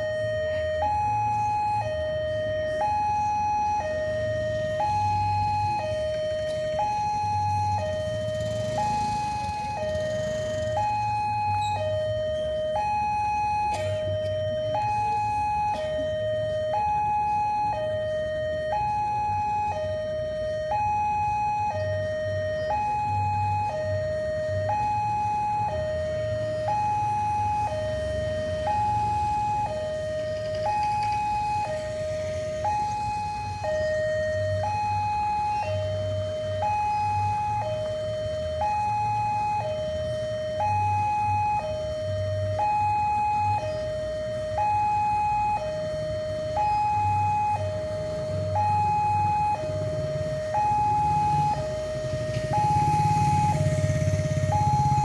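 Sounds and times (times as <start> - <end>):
two-tone level crossing siren: 0.0 - 55.0.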